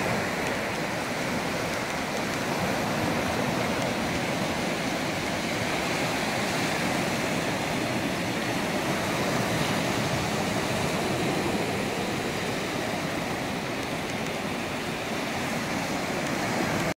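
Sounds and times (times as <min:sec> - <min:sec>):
surf washing over sand: 0:00.0 - 0:16.9.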